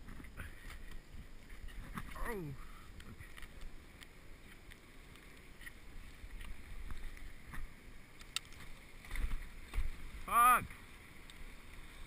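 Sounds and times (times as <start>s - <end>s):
bicycle rolling noise: 0.0s - 12.0s
light clicks and rattles: 0.1s - 9.9s.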